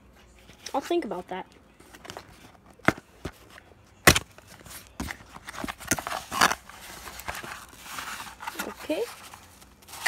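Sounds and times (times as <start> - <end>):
cardboard and foam rustling: 1.8 - 10.0.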